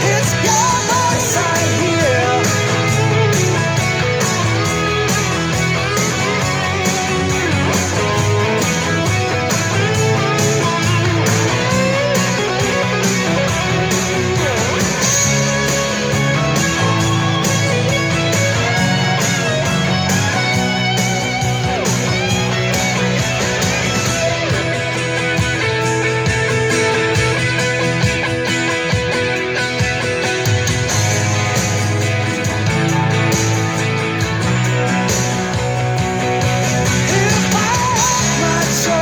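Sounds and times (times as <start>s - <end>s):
bass guitar: 0.0s - 39.0s
drum beat: 0.0s - 39.0s
electric guitar lead: 0.0s - 39.0s
strummed guitar: 0.0s - 39.0s.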